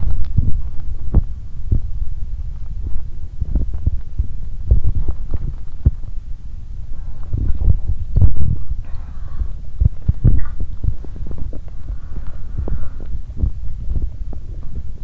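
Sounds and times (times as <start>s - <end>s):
stomach rumbling and gurgling: 0.0s - 15.0s.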